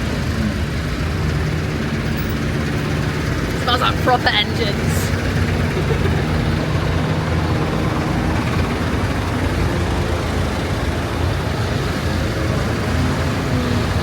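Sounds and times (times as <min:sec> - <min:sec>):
diesel engines running: 0:00.0 - 0:14.0.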